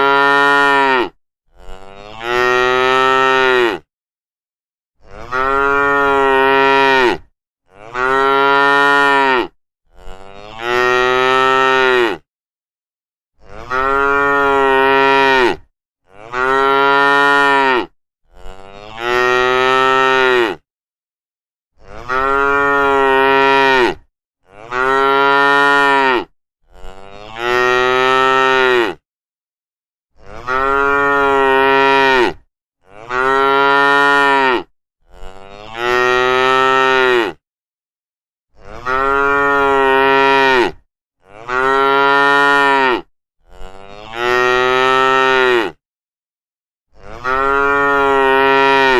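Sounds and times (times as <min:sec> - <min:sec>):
cattle mooing: 0:00.0 - 0:03.9, 0:05.0 - 0:12.2, 0:13.4 - 0:20.6, 0:21.9 - 0:29.0, 0:30.2 - 0:37.4, 0:38.6 - 0:45.8, 0:47.0 - 0:48.9.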